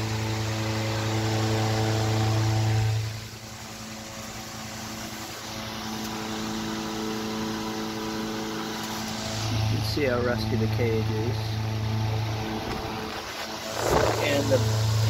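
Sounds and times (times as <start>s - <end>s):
electric fan motor hum: 0.0s - 15.0s
fan air whoosh: 0.0s - 15.0s.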